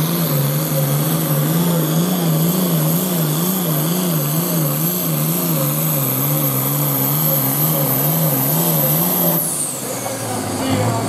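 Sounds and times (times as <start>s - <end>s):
high turbo whine: 0.0s - 11.0s
tractor diesel engine at full throttle: 0.0s - 11.0s.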